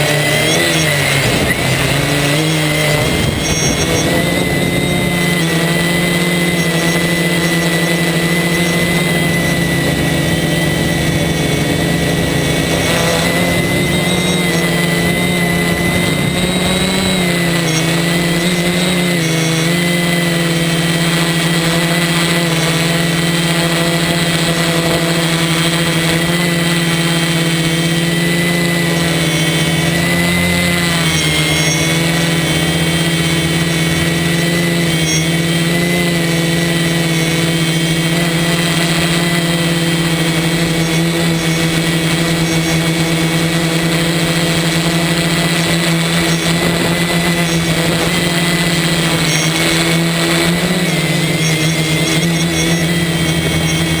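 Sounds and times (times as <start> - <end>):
quadcopter drone in flight: 0.0 - 54.0.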